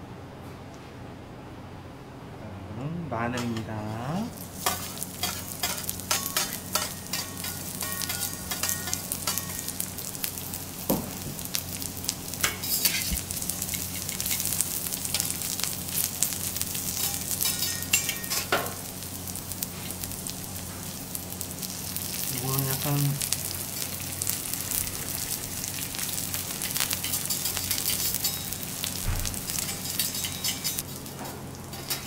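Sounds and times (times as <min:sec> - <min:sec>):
garlic sizzling in oil: 0:03.5 - 0:32.0.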